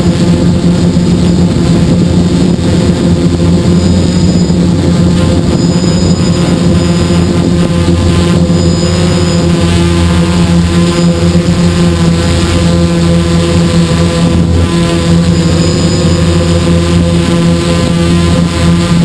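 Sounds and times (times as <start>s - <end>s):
drone propellers droning: 0.0s - 19.0s.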